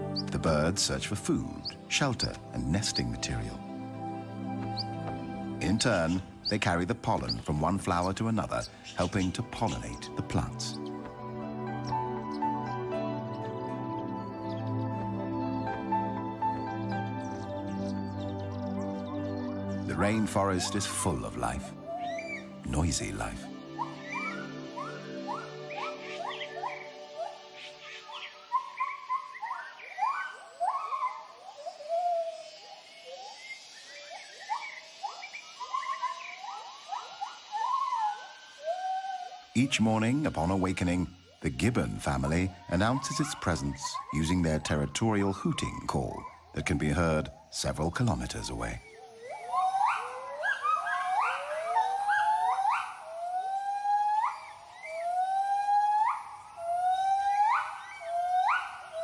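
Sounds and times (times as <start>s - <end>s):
gibbons whooping calls: 11.6s - 59.0s.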